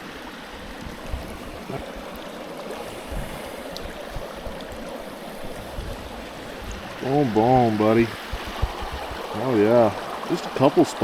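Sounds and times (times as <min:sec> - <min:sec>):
stream flowing over rocks: 0:00.0 - 0:11.0.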